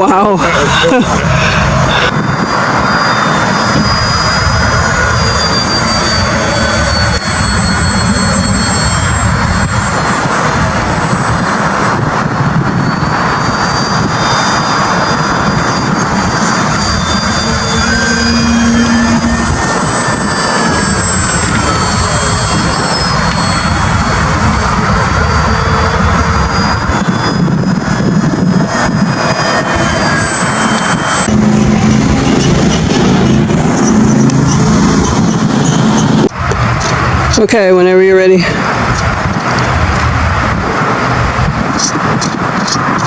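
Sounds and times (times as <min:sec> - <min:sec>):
model airplane engine whining: 0:00.0 - 0:43.0.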